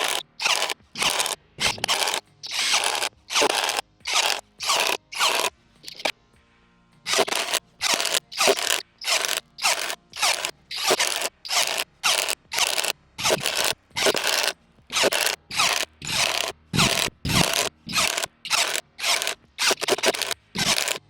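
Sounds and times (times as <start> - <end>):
impact driver hammering: 0.0 - 6.1, 7.1 - 21.0.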